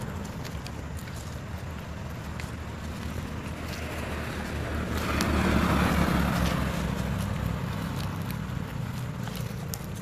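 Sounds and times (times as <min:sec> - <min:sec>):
vehicle passing rumble: 0:00.0 - 0:10.0.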